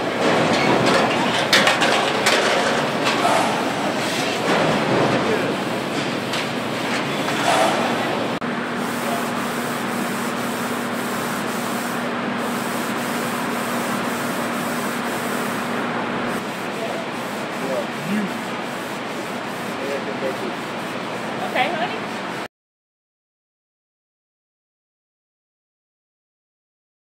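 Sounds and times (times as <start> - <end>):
steady machine hum: 0.0 - 22.5.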